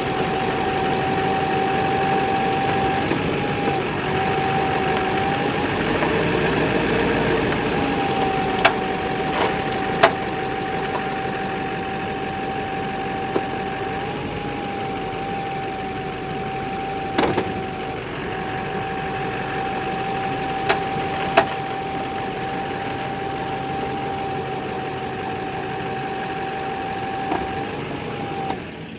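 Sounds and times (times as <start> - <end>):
diesel engine idling with whine: 0.0 - 28.9.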